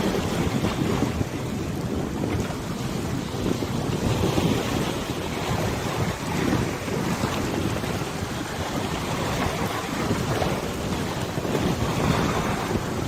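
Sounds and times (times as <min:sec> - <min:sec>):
small waves washing: 0:00.0 - 0:13.0
wind buffeting microphone: 0:00.0 - 0:13.0.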